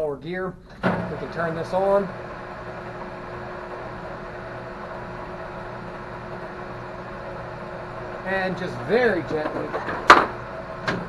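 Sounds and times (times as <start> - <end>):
metal lathe humming: 0.6 - 11.0.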